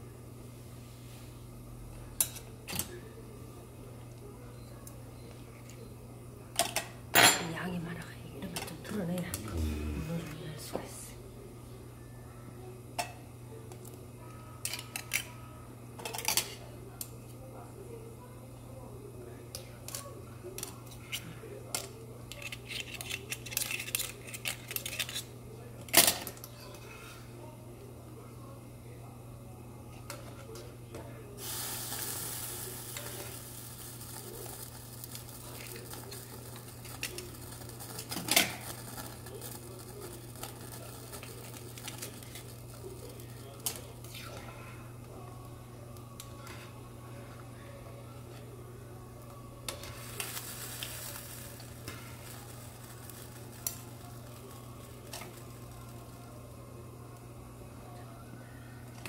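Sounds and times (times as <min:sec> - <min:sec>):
steady low hum: 0:00.0 - 0:22.4, 0:32.6 - 0:59.0
hot pot boiling with hiss: 0:05.1 - 0:12.0, 0:12.7 - 0:59.0.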